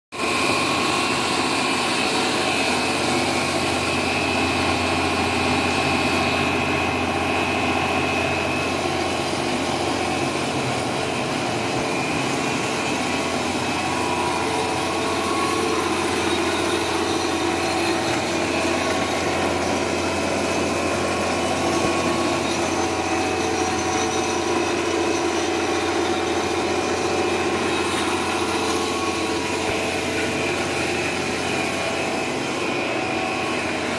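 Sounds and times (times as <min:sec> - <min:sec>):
machine whining tones: 0:00.2 - 0:33.9
production line motors humming: 0:00.2 - 0:33.9.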